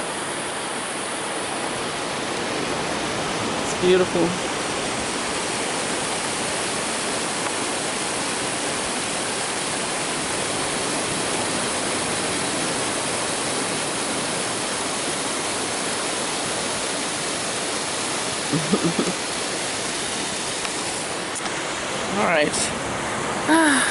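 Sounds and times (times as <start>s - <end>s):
waterfall roaring: 0.0s - 23.9s.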